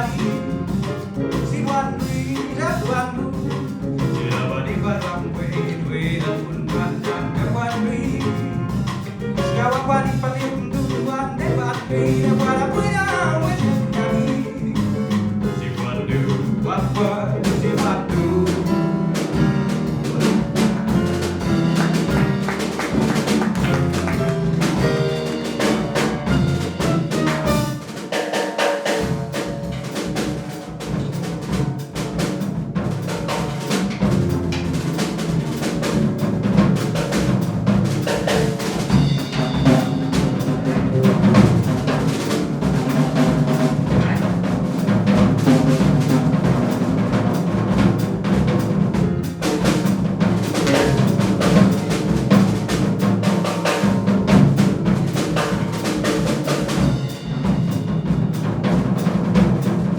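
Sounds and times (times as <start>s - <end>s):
drum kit: 0.0s - 59.9s
jazz band playing: 0.0s - 59.9s.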